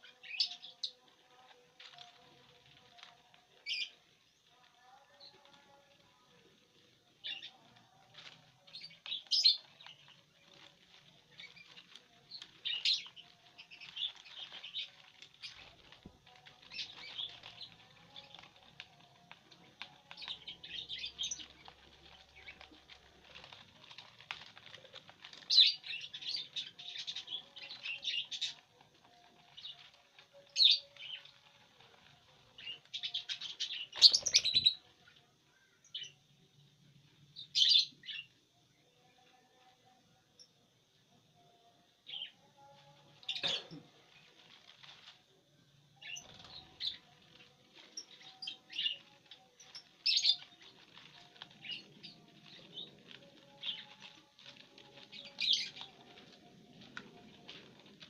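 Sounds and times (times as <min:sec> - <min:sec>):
birds chirping: 0:00.0 - 0:36.2, 0:46.0 - 0:58.0
wings fluttering: 0:00.2 - 0:34.8, 0:46.0 - 0:58.0.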